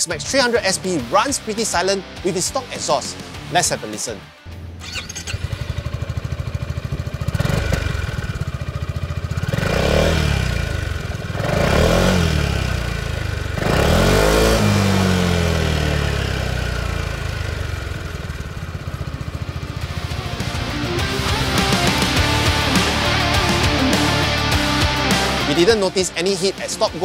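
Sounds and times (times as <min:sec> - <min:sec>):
scooter engine idling and revving: 0:04.4 - 0:27.0.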